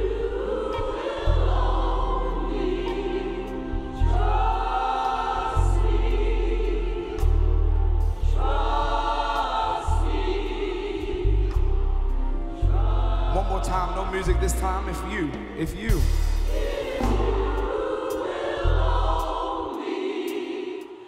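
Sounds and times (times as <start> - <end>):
deep bass notes: 0.0 - 19.6
choir singing gospel music: 0.0 - 21.0.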